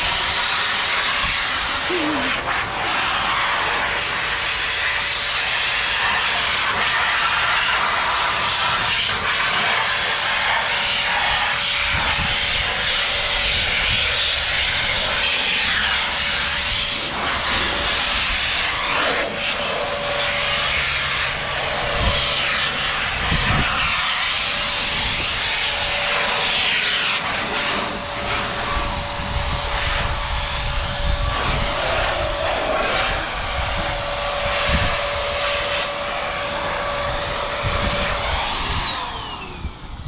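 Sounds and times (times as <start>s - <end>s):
motor spinning down: 0.0s - 4.8s, 11.5s - 40.0s
electric blower whining: 0.0s - 40.0s.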